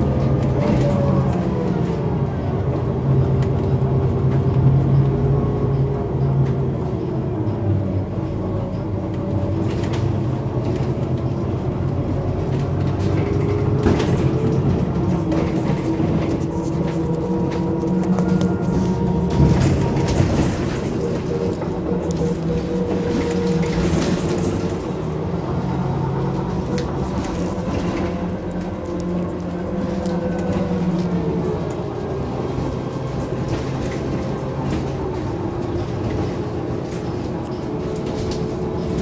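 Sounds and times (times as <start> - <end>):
bus diesel engine idling: 0.0 - 39.0.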